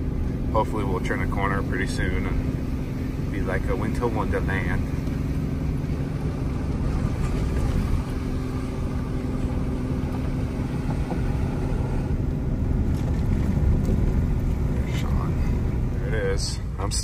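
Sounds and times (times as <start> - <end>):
tyres on gravel road: 0.0 - 17.0
vehicle engine hum: 0.0 - 17.0.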